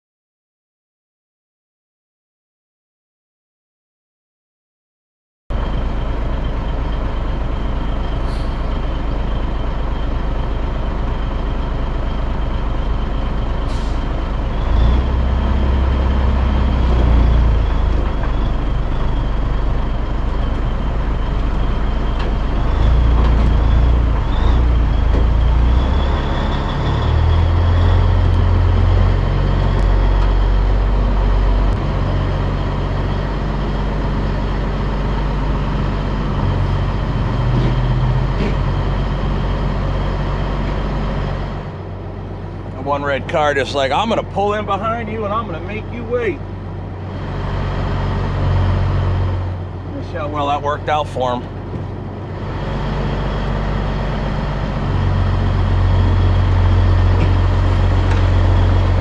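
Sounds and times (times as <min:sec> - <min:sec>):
truck diesel engine running: 0:05.5 - 0:59.0.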